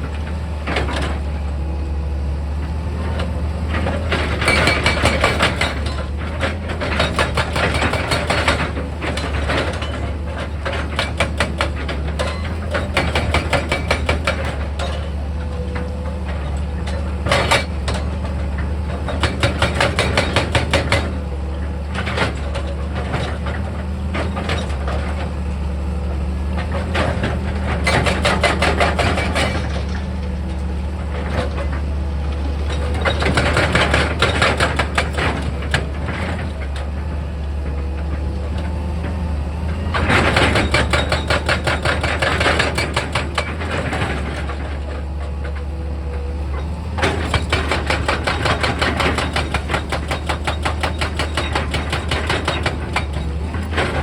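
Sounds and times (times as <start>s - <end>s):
excavator diesel engine running: 0.0s - 54.0s
machine rattling and clanking: 3.7s - 25.4s, 26.6s - 30.3s, 32.5s - 37.0s, 39.8s - 54.0s.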